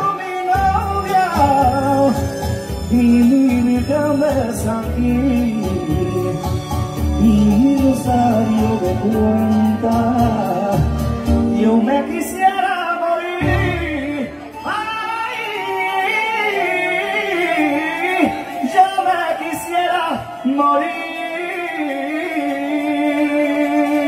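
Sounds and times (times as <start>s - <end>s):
backing music through speakers: 0.0s - 24.0s
man singing into microphone: 0.0s - 24.0s.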